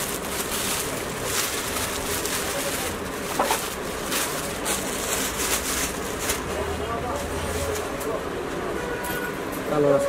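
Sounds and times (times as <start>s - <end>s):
market hubbub: 0.0s - 10.0s.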